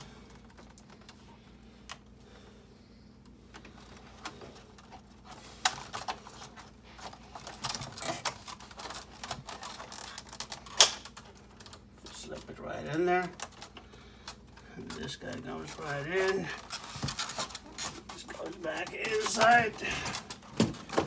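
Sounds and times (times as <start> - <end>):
plastic parts clicking and rattling: 0.0 - 2.1, 3.2 - 21.0.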